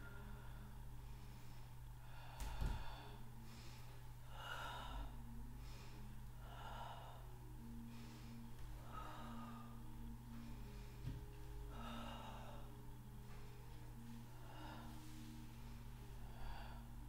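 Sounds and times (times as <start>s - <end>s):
low hum: 0.0s - 17.0s
woman breathing loudly: 0.0s - 17.0s.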